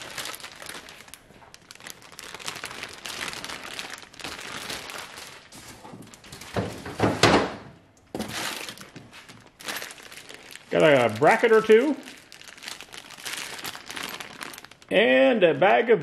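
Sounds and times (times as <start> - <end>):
plastic bag crinkling: 0.0 - 6.6, 8.1 - 15.6.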